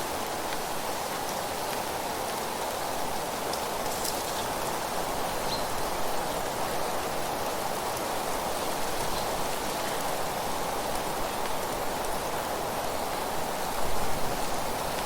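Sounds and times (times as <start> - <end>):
outdoor nature ambience rushing: 0.0 - 15.0.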